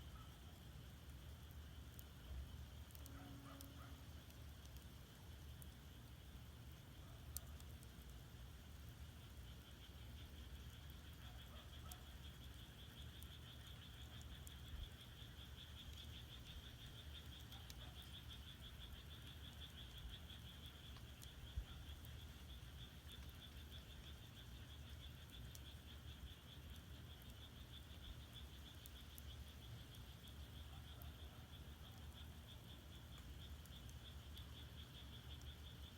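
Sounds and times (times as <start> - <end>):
firewood burning in a firebox: 0.0 - 35.9
frogs trilling: 0.0 - 35.9.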